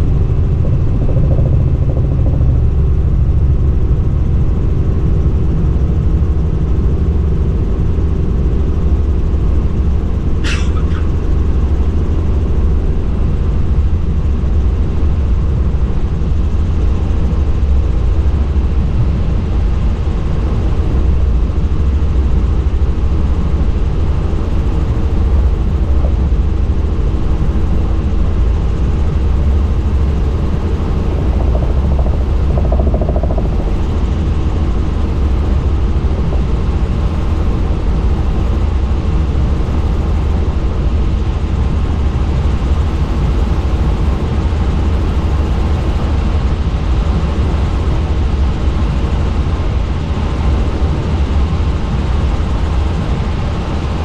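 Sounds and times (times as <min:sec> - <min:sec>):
helicopter rotor drone: 0:00.0 - 0:54.0.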